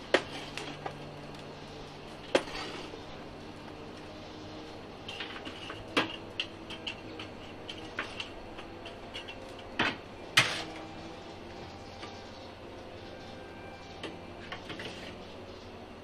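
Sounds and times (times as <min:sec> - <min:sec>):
metal shovel scraping charcoal: 0:00.0 - 0:15.4
faint steady hum: 0:00.0 - 0:16.0.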